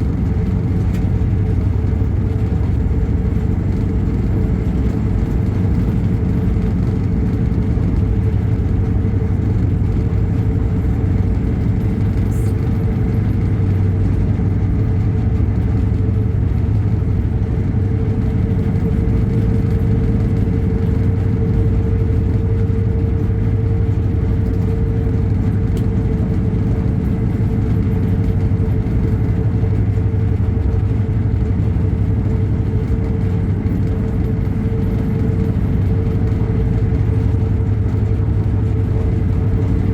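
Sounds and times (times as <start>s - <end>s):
vehicle engine drone: 0.0s - 39.9s.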